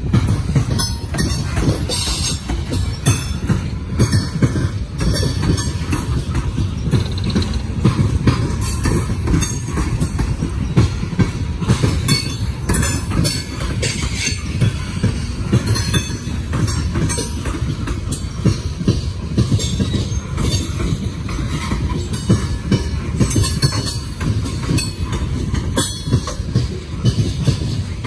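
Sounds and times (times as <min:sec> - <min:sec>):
train wheels rumbling on rail: 0:00.0 - 0:28.0
wheels clacking over rail joints: 0:00.0 - 0:28.0.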